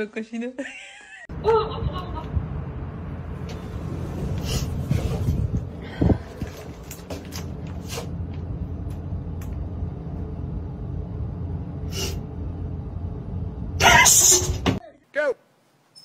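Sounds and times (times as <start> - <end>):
elevator low rumble: 1.3 - 14.8.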